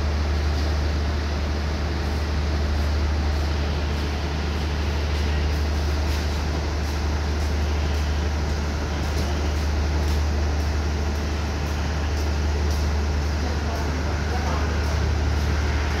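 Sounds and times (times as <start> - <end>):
train diesel engines idling: 0.0 - 16.0.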